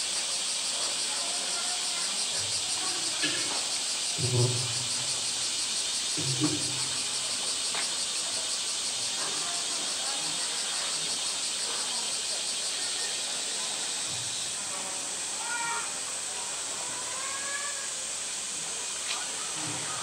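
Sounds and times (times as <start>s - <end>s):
cicadas droning: 0.0s - 20.0s.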